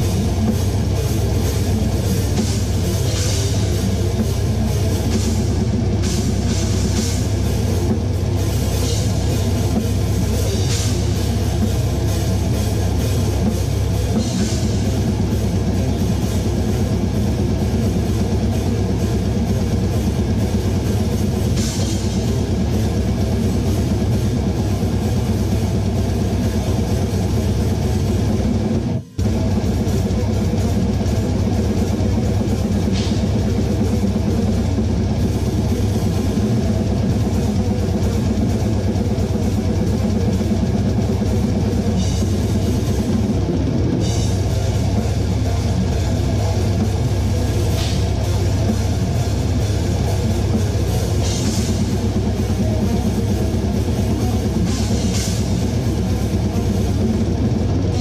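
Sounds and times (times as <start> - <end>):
death metal band playing: 0.0 - 58.0.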